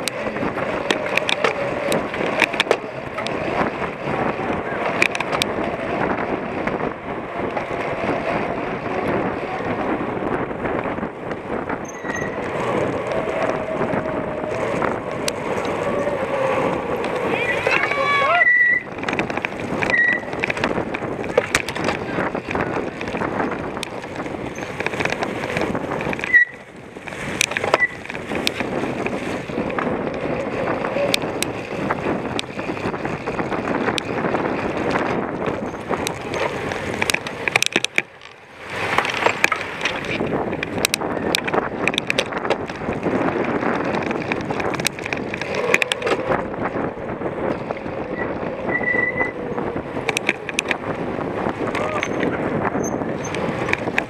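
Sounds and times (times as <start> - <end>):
bike rattling clicks: 0.0 - 54.0
bike tyre rumble: 0.0 - 54.0.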